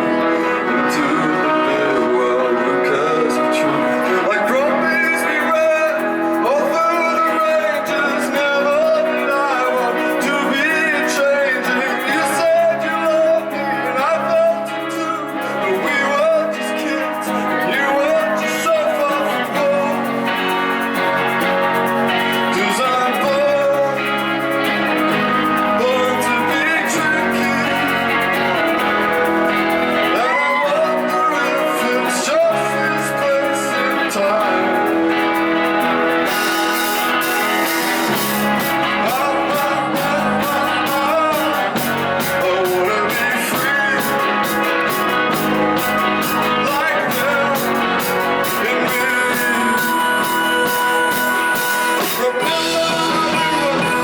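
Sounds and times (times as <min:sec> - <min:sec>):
guitar chords: 0:00.0 - 0:54.0
person singing lead vocal: 0:00.0 - 0:54.0.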